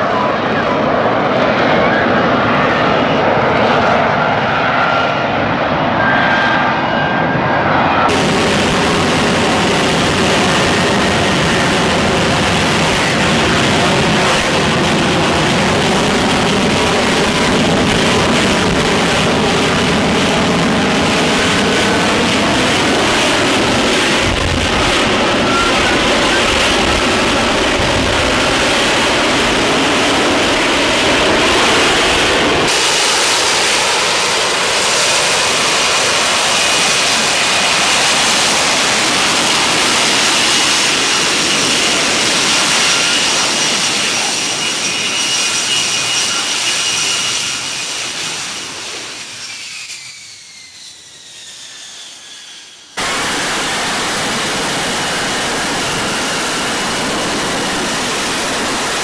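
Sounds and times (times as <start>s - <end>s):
high jet whine: 0.0s - 59.0s
jet engine roaring: 0.0s - 59.0s.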